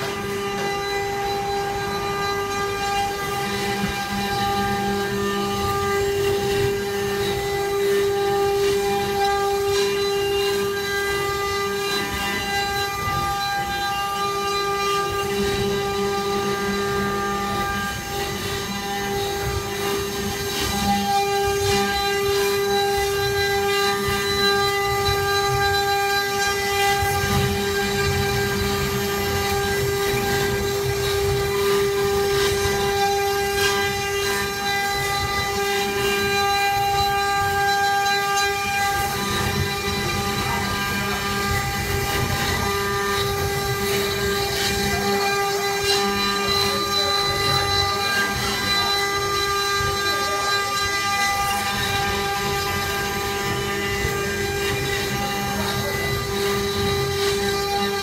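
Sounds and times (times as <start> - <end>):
router bits cutting timber: 0.0 - 58.0
router spindle motors whining: 0.0 - 58.0.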